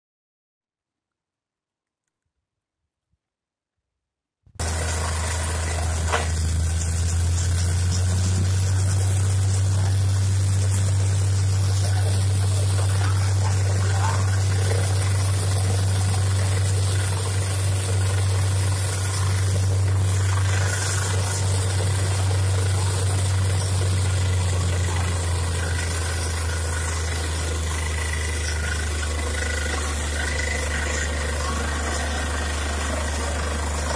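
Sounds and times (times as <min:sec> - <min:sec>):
drilling rig engine drone: 0:04.6 - 0:33.9
rushing slurry of water: 0:04.6 - 0:33.9.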